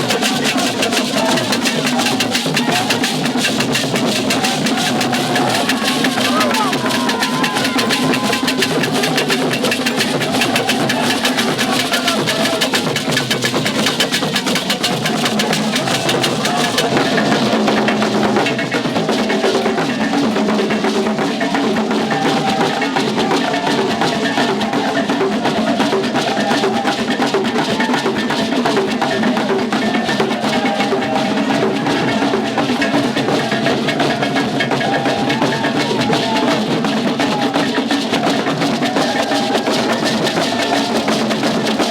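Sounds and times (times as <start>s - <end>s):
fast drum and percussion beat: 0.0s - 41.9s.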